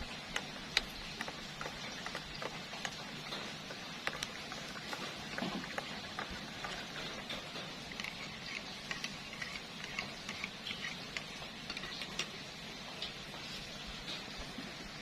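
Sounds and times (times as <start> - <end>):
drips pattering on hard surface: 0.0 - 15.0
rain falling steadily: 0.0 - 15.0.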